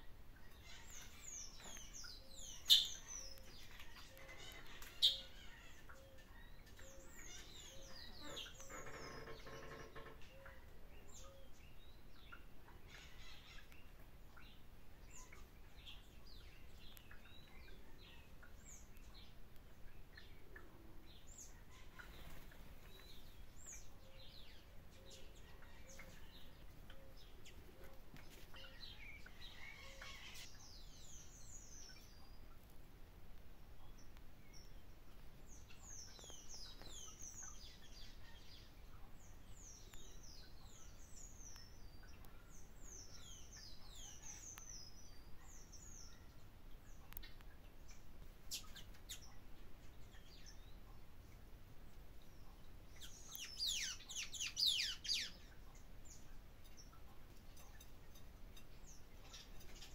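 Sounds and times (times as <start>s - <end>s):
faint steady background noise: 0.0s - 59.9s
small birds chirping: 0.0s - 59.9s.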